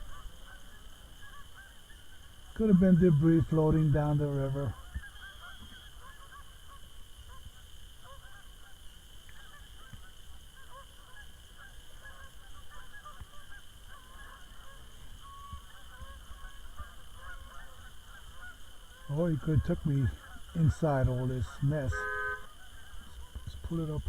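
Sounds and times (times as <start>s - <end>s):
geese honking: 0.0s - 24.0s.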